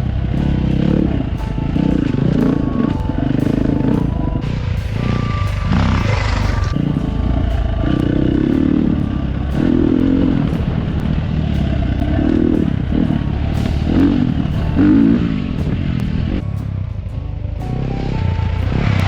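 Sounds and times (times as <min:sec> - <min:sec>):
dirt bike engine revving: 0:00.0 - 0:16.4.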